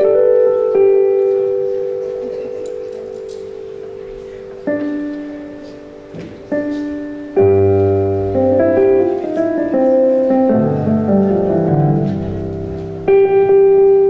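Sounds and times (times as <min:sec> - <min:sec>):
keyboard playing held chords: 0:00.0 - 0:14.0.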